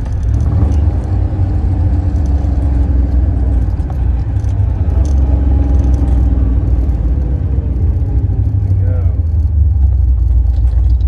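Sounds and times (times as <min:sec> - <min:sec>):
car engine deep drone: 0:00.0 - 0:11.0.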